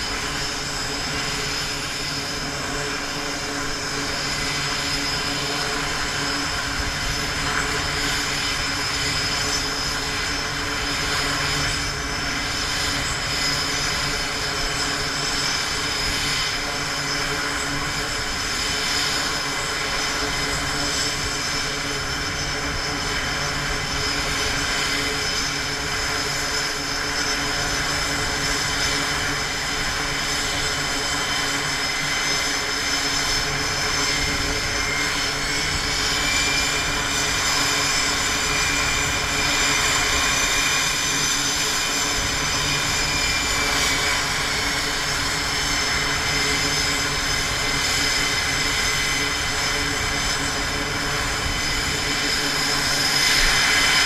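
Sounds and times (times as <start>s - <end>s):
high jet engine whine: 0.0s - 54.0s
jet engines rushing: 0.0s - 54.0s.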